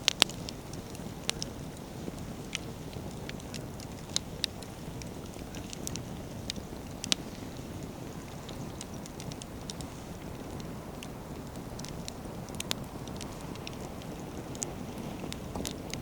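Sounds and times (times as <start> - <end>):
firewood crackling and popping: 0.0 - 16.0
low rush of flames: 0.0 - 16.0.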